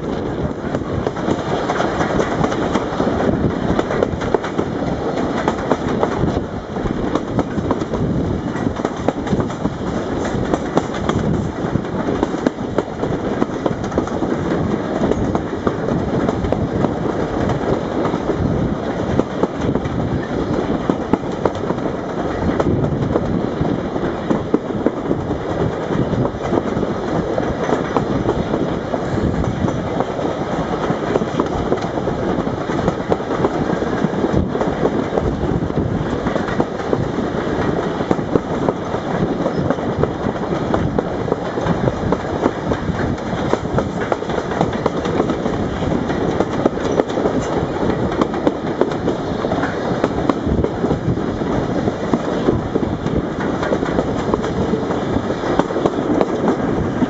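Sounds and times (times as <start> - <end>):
track clicks and clatters: 0.0 - 57.0
train wheels rumbling on rails: 0.0 - 57.0.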